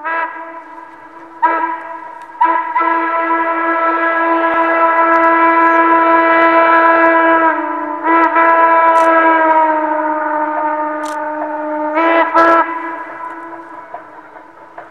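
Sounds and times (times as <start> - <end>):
steam locomotive whistle blasts: 0.0 - 14.9.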